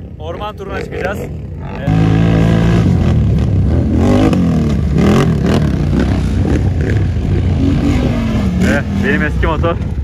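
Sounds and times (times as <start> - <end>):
atv engine revving: 0.2 - 10.0.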